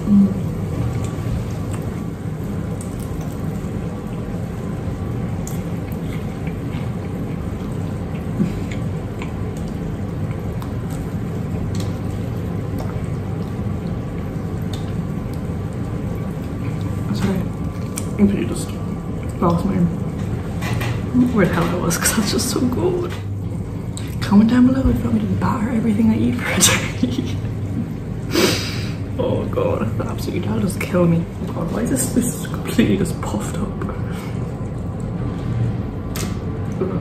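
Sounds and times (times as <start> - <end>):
hot oil bubbling in fryer: 0.0 - 37.0.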